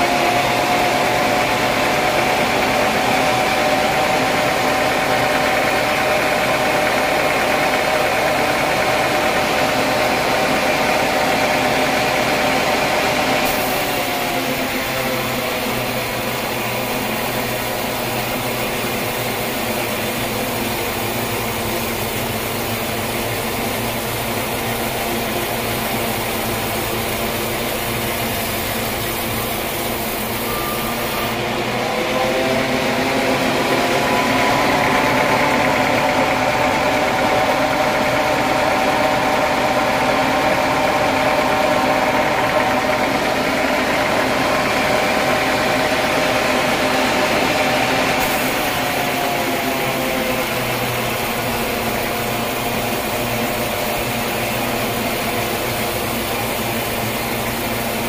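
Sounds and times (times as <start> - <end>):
band saw cutting wood: 0.0 - 58.0.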